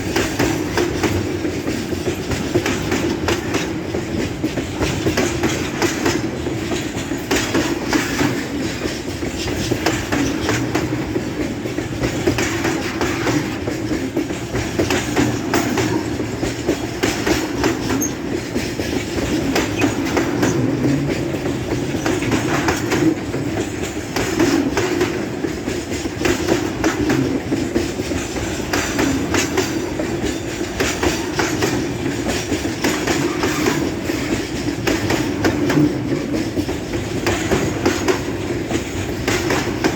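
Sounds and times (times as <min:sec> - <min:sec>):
freight train rumbling: 0:00.0 - 0:39.9
wheels clicking over rail joints: 0:00.0 - 0:39.9.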